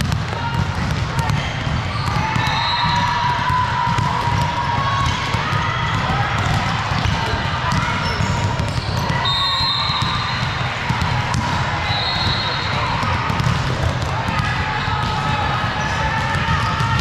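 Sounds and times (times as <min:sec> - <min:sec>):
players' voices chattering: 0:00.0 - 0:17.0
volleyballs hit and bouncing: 0:00.0 - 0:17.0.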